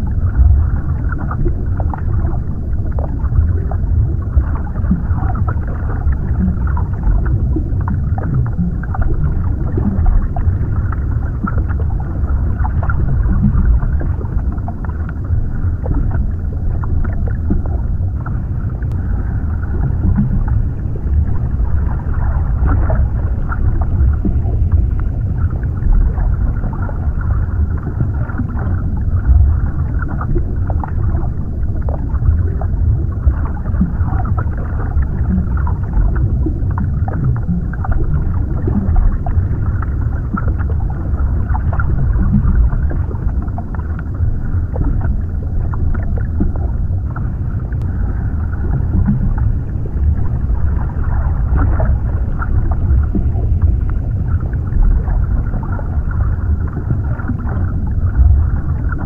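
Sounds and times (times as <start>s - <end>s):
faint crackles and pops: 0.0s - 59.0s
muffled underwater rumble: 0.0s - 59.0s.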